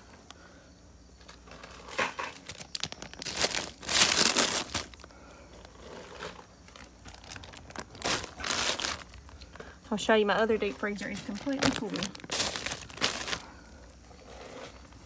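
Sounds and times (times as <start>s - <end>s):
bags crinkling and rustling: 1.2s - 9.8s, 10.6s - 15.0s.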